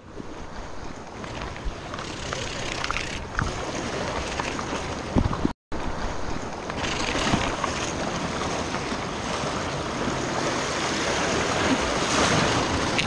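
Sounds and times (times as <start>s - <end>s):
wind on microphone: 0.0s - 13.0s
sea water washing against rocks: 0.9s - 13.0s.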